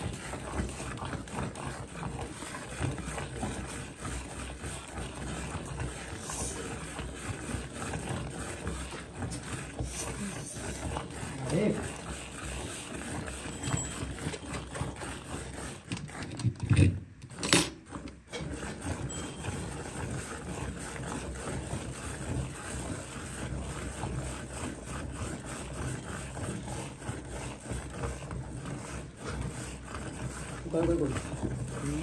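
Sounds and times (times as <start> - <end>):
milk squirting into steel bucket: 0.0 - 32.0.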